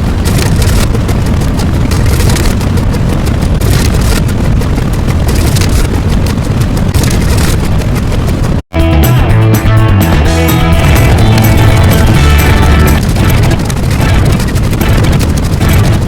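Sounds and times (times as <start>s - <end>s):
harsh bassy rumbling noise: 0.0s - 16.0s.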